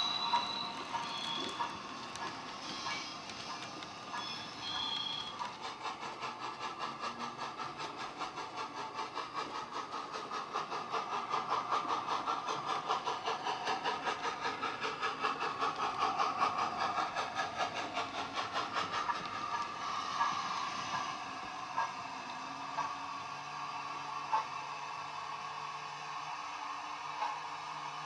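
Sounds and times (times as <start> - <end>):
steam hiss: 0.0 - 28.0
steam locomotive chuffing: 0.0 - 28.0.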